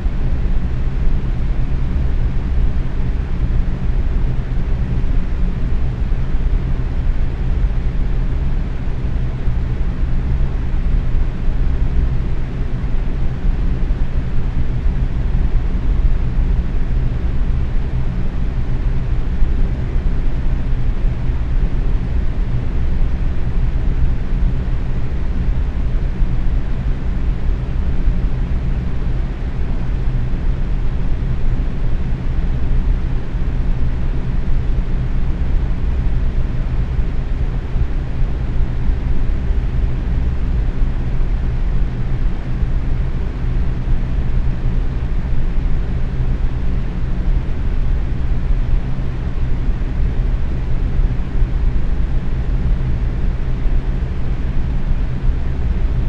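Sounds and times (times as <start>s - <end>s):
faint motor hum: 0.0s - 56.0s.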